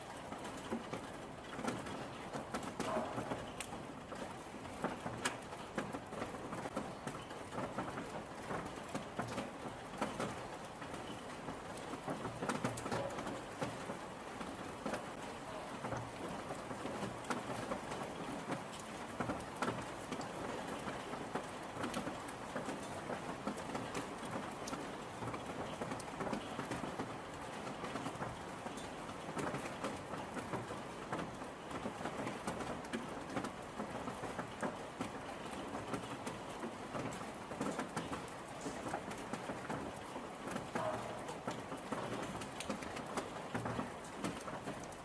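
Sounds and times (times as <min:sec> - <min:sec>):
raindrops clicking on a surface: 0:00.0 - 0:45.0
steady rain falling: 0:00.0 - 0:45.0.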